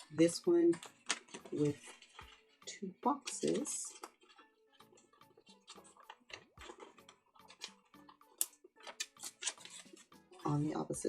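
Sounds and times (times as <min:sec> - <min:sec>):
paper crinkling: 0:00.7 - 0:10.5.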